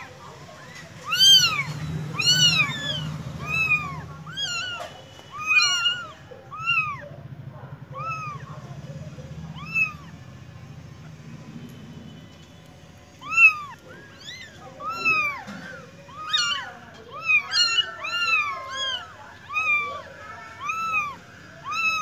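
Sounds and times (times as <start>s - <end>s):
kittens mewing: 0.0s - 11.4s, 13.1s - 22.0s.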